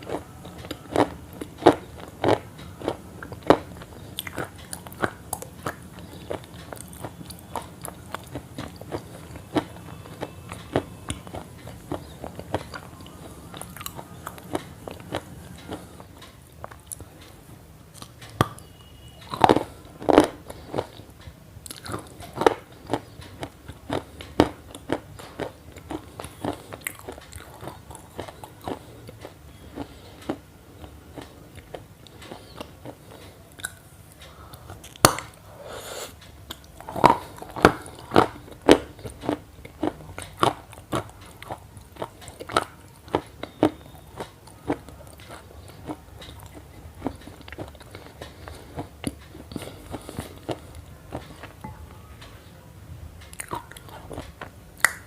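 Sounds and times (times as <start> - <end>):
crisp crunching and chewing: 0.0 - 35.4, 36.5 - 51.8, 53.2 - 55.0.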